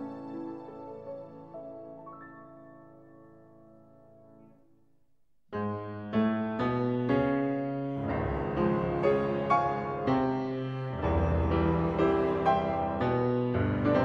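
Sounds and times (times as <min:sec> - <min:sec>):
piano music: 0:00.0 - 0:04.9, 0:05.5 - 0:14.0.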